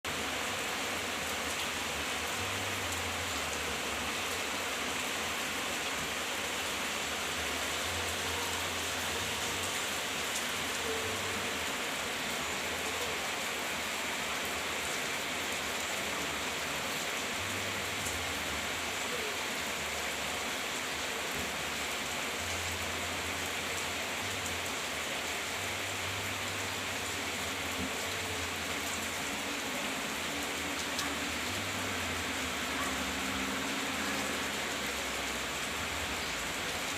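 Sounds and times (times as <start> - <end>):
rain falling steadily: 0.0 - 36.9.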